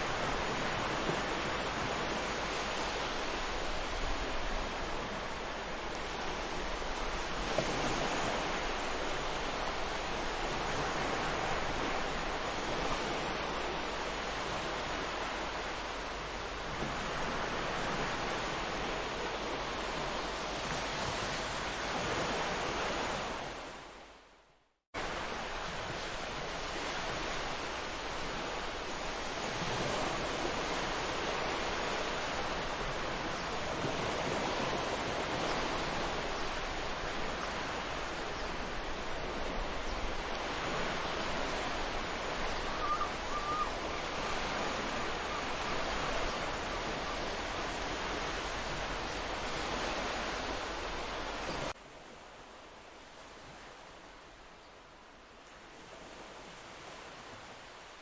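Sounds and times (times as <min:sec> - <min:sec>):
sea waves washing onto beach: 0:00.0 - 0:24.0, 0:25.0 - 0:58.0.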